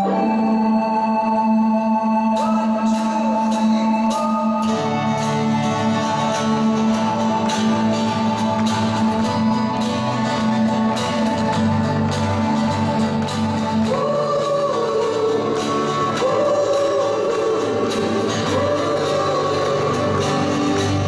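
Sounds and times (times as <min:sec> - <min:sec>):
guitars: 0:00.0 - 0:21.0
keyboard chords: 0:00.0 - 0:21.0
low bass notes: 0:00.0 - 0:21.0.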